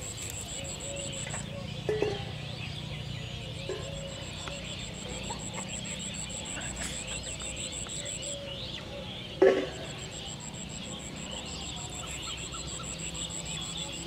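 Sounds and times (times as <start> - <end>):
pulsing high insect call: 0.0 - 8.9, 9.6 - 14.0
small birds chirping: 0.0 - 14.0.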